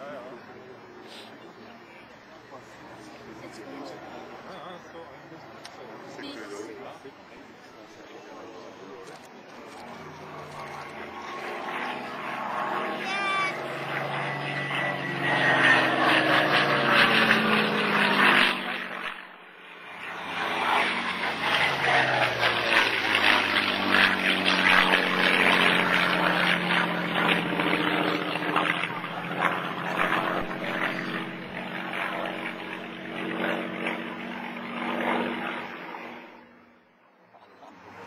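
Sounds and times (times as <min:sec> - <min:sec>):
propeller plane flying past: 0:00.0 - 0:38.0.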